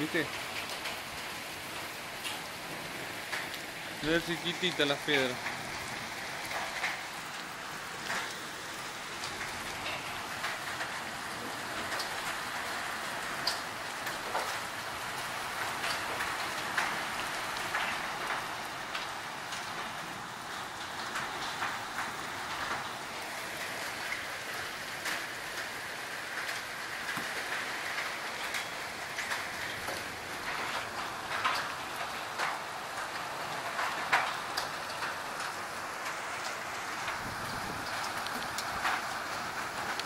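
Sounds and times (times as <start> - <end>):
hailstones hitting: 0.0 - 40.0
heavy rain hissing: 0.0 - 40.0.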